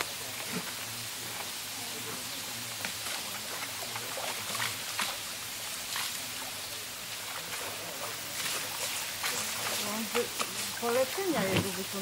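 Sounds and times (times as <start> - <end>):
flowing river water: 0.0 - 12.0
water splashes: 0.0 - 12.0.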